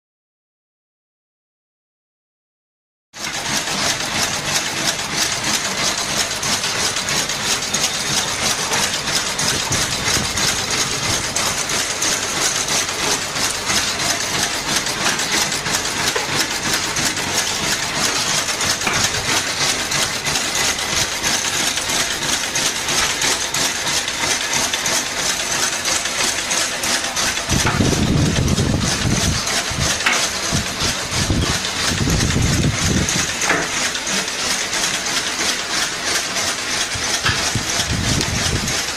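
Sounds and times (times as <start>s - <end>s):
coding machine clatter and hum: 3.2s - 38.9s.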